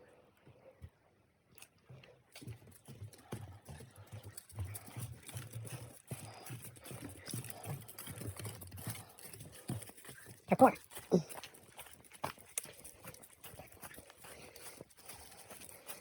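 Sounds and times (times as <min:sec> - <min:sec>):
footsteps on forest trail: 0:01.5 - 0:16.0
ground crackling underfoot: 0:01.5 - 0:16.0.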